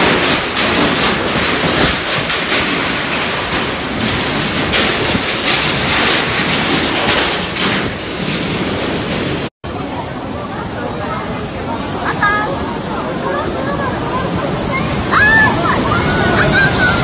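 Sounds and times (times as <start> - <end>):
tornado wind blowing hard: 0.0 - 17.0.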